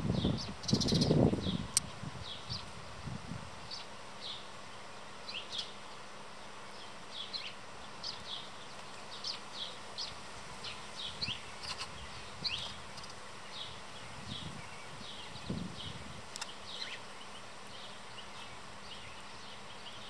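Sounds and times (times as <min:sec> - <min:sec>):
small songbirds chirping: 0:00.0 - 0:20.0
steady hiss: 0:00.0 - 0:20.0.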